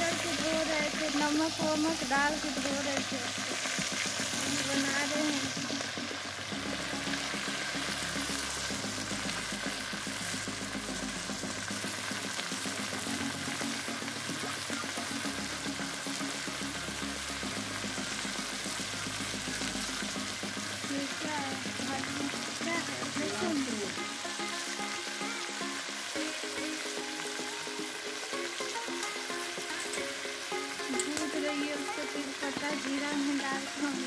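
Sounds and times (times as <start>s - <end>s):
meat sizzling in hot oil: 0.0s - 34.0s.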